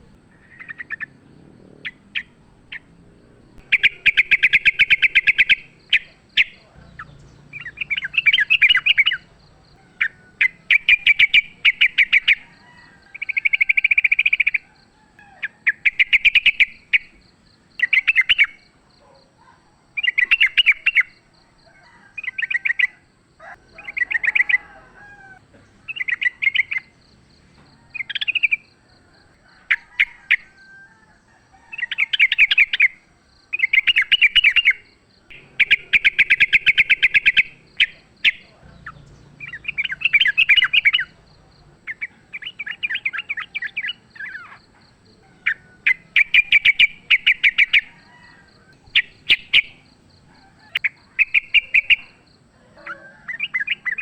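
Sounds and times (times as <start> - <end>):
bird chattering song: 0.0 - 21.3, 25.6 - 27.0, 27.8 - 28.8, 31.7 - 54.0.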